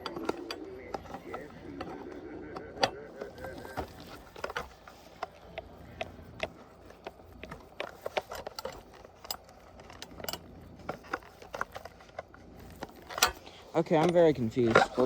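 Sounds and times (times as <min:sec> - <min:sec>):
plastic parts clicking and tapping: 0:00.0 - 0:15.0.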